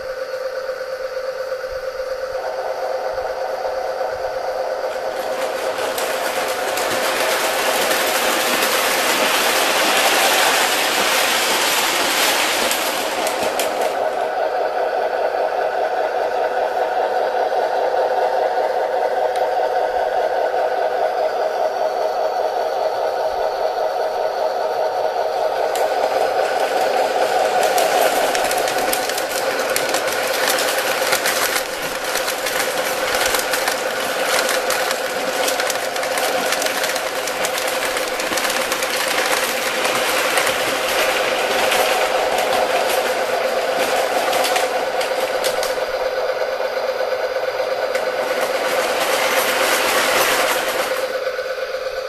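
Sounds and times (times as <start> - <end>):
model train motor hum: 0.0 - 52.0
wheels clicking over rail joints: 1.6 - 52.0.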